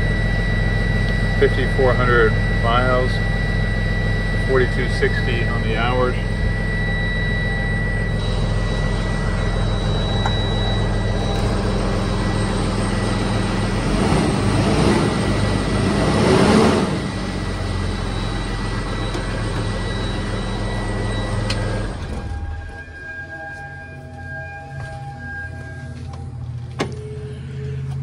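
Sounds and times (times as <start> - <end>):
truck engine idling and revving: 0.0 - 28.0.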